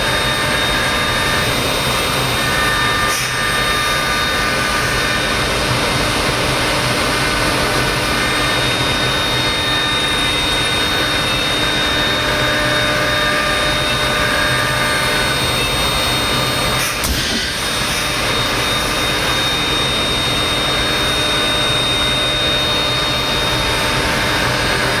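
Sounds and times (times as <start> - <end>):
router spindle whining: 0.0 - 25.0.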